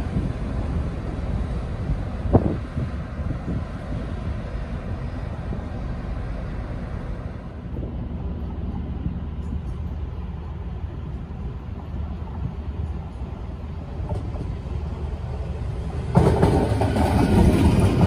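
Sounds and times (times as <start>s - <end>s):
low rumble of trains: 0.0s - 18.0s
train drawing in: 0.0s - 18.0s.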